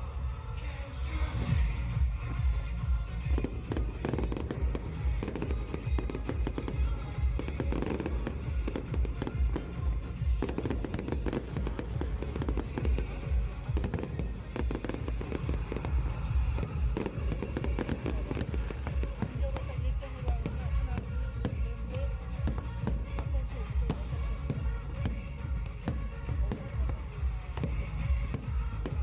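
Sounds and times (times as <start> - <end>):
music playing: 0.0 - 29.0
fireworks bursting and crackling: 1.5 - 29.0.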